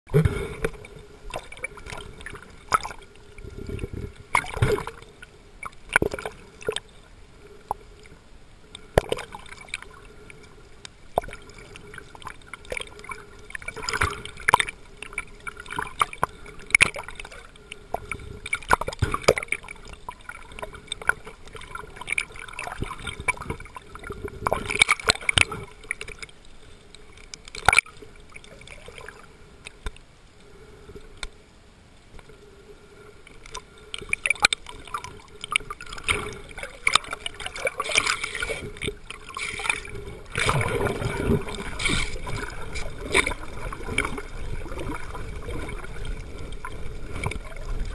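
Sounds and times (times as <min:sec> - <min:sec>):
faint steady hum: 0:00.1 - 0:47.9
water sloshing and gurgling: 0:00.1 - 0:47.9.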